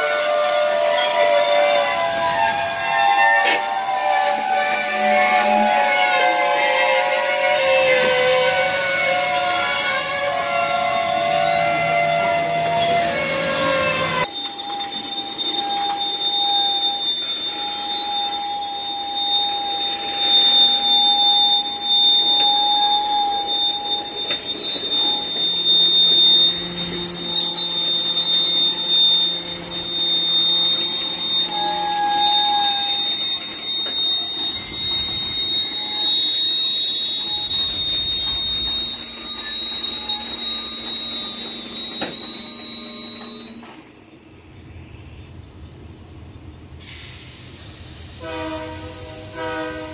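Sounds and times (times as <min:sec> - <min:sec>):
wheel flanges squealing: 0:00.0 - 0:45.3
rumble of wheels on rail: 0:00.0 - 0:49.9.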